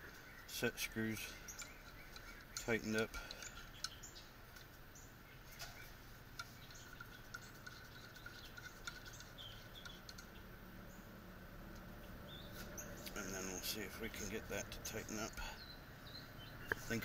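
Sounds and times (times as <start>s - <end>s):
faint bird chirps: 0.0s - 11.2s, 11.9s - 17.0s.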